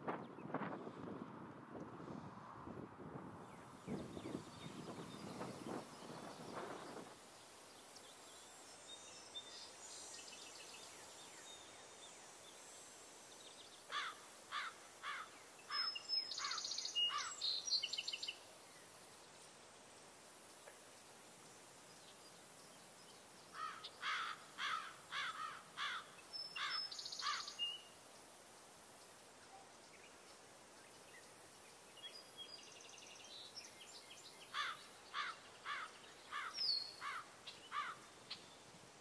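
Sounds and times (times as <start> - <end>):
faint outdoor hiss: 0.0 - 39.0.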